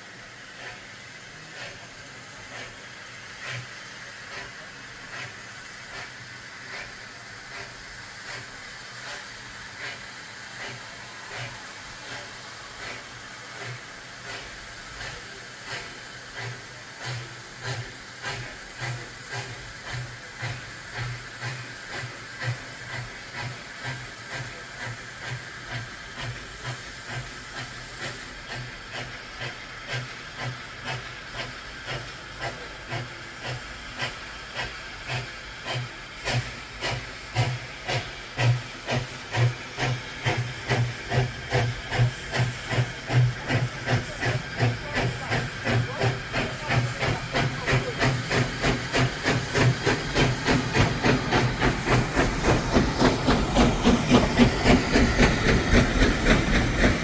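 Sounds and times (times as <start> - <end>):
steady hiss of steam: 0.0 - 57.0
steam locomotive exhaust beats: 0.0 - 57.0.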